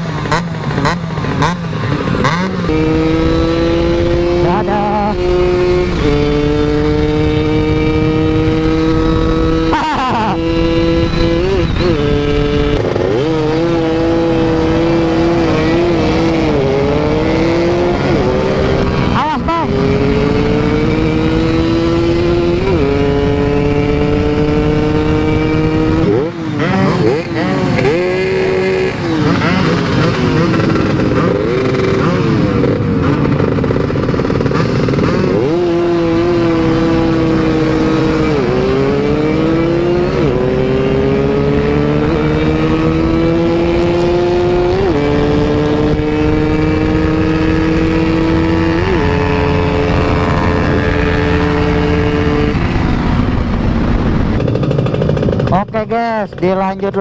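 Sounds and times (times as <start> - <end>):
motorcycle engines running: 0.0 - 57.0
road and wind noise: 0.0 - 57.0.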